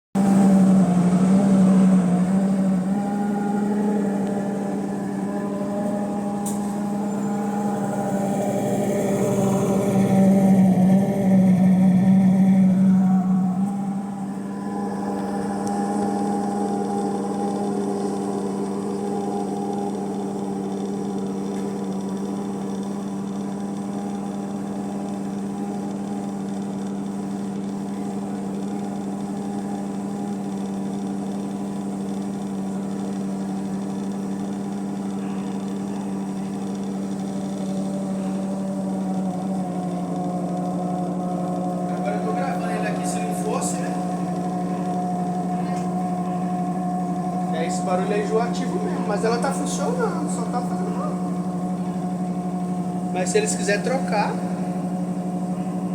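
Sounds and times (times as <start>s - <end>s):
washing machine drain pump humming: 0.2s - 55.9s.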